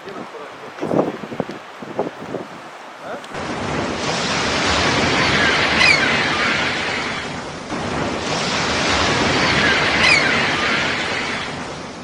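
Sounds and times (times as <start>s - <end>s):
sea waves surging: 0.0s - 12.0s.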